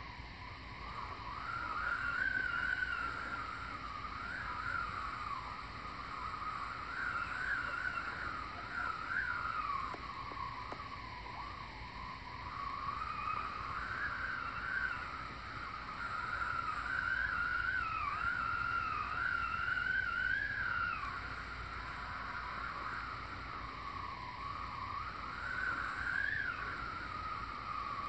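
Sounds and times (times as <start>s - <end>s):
rush of wind: 0.0s - 28.0s
wind whistling: 0.0s - 28.0s.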